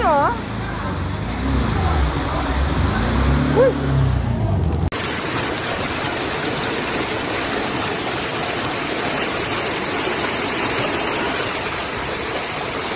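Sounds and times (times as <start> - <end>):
floodwater rushing: 0.0 - 12.9.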